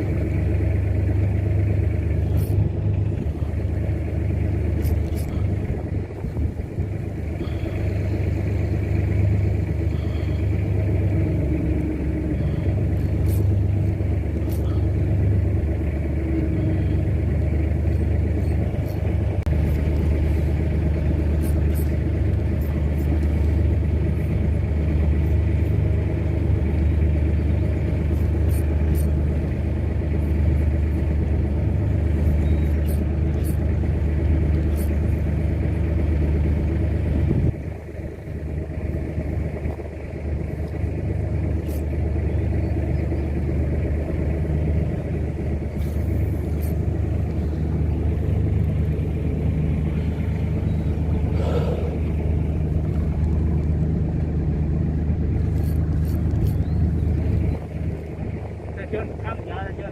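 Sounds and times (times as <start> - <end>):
boat engine rumbling: 0.0 - 59.9.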